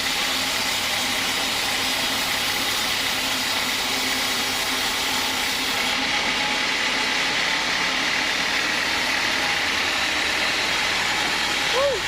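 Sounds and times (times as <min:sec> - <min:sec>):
sawmill engine running: 0:00.0 - 0:12.0.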